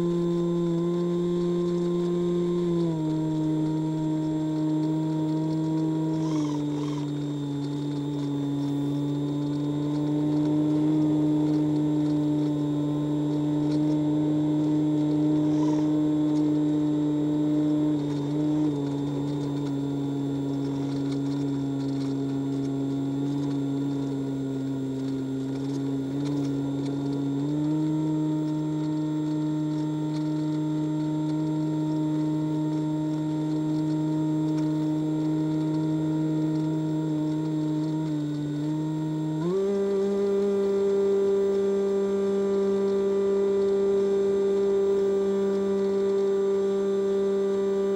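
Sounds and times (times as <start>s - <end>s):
model plane motor droning: 0.0s - 47.9s.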